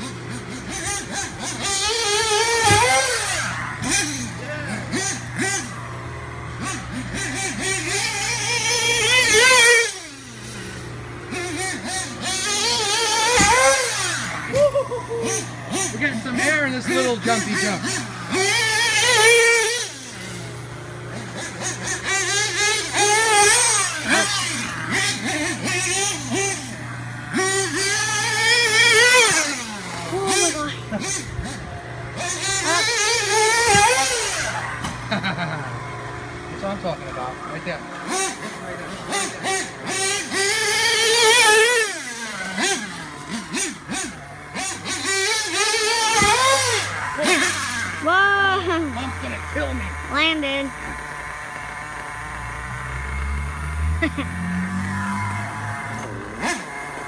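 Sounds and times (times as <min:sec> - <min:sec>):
model truck engine revving: 0:00.0 - 0:57.0.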